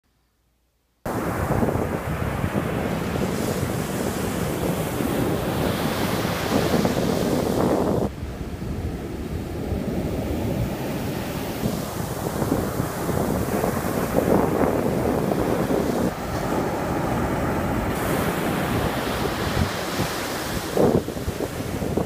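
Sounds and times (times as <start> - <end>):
surf breaking on beach: 1.1 - 8.1, 9.6 - 22.0
wind buffeting microphone: 1.1 - 22.0.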